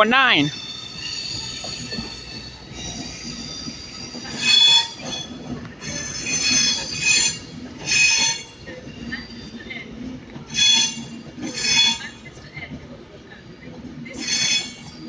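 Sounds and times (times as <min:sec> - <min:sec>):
electric train squealing: 0:00.0 - 0:15.0.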